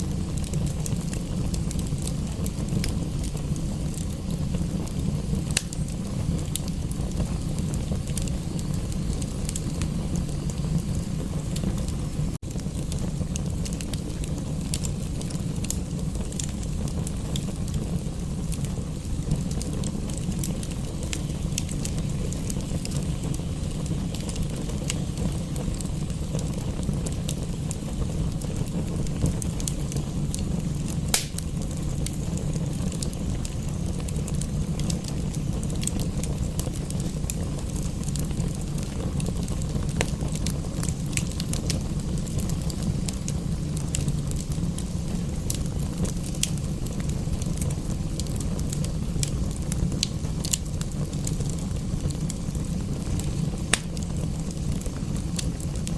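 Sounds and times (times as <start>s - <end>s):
low rumble and hiss: 0.0s - 55.9s
wood fire crackling and popping: 0.0s - 55.9s.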